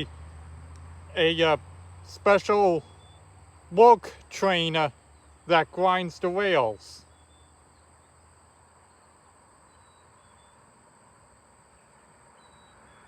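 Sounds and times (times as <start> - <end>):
high-pitched insect hum: 0.0 - 13.0.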